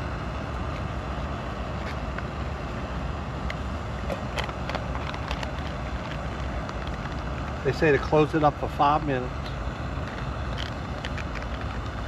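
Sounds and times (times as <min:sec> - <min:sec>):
distant highway traffic rumble: 0:00.0 - 0:12.0.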